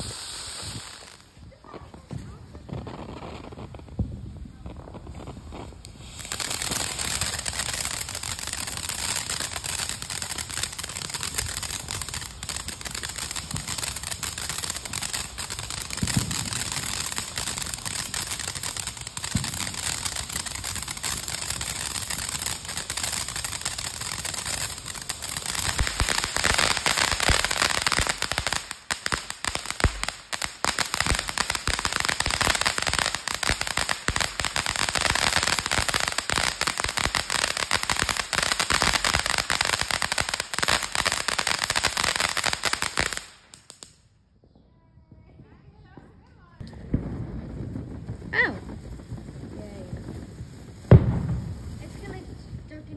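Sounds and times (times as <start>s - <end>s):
firework fountain hissing and crackling: 0.0s - 44.1s, 45.2s - 52.9s.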